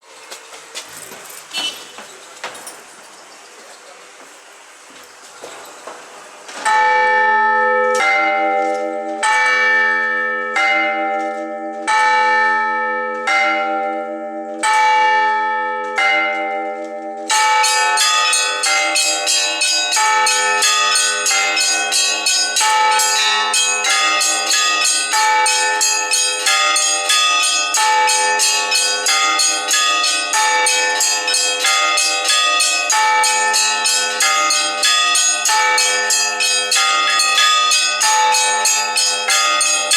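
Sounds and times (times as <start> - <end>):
church bells ringing: 6.5 - 39.9.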